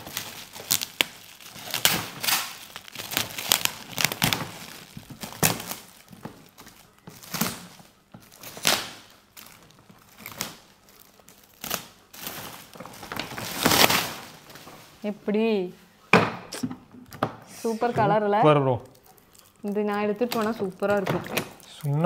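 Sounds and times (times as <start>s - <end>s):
packaging crumpled and torn: 0.0s - 14.7s, 18.8s - 22.0s.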